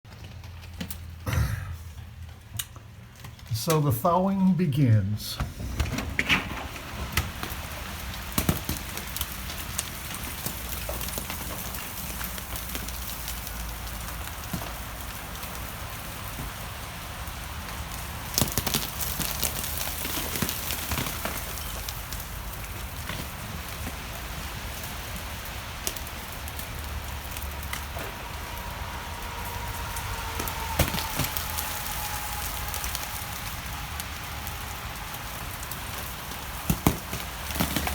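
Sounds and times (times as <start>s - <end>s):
meltwater dripping and pattering: 6.9s - 37.9s.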